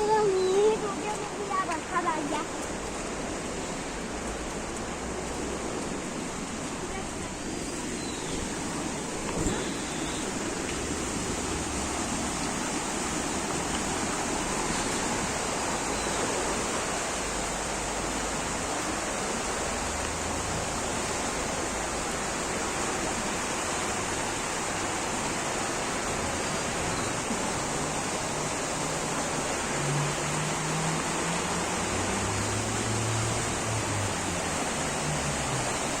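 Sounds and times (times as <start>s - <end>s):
heavy water rushing: 0.0s - 36.0s.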